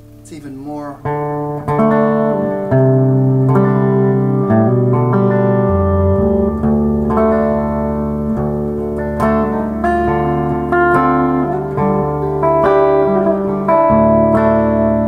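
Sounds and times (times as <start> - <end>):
electric guitar notes and chords: 0.0 - 15.0.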